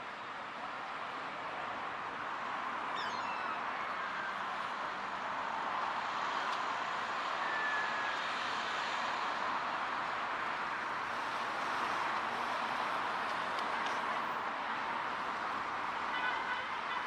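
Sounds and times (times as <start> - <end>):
road traffic passing: 0.8 - 17.0.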